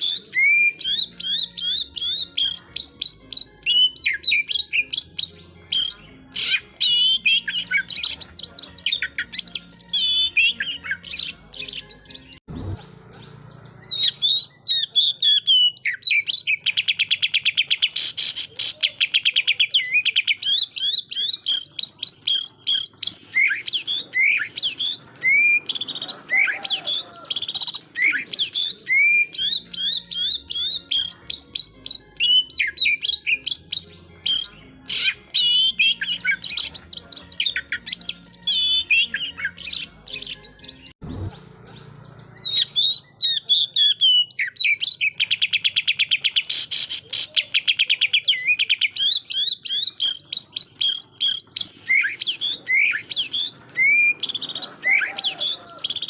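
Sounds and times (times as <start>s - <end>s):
bird singing whistles and chirps: 0.0s - 56.0s.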